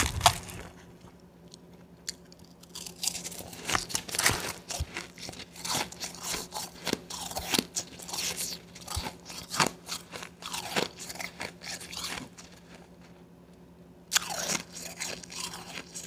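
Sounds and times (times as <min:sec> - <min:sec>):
person chewing ice crunches: 0:00.0 - 0:13.2, 0:14.1 - 0:16.0.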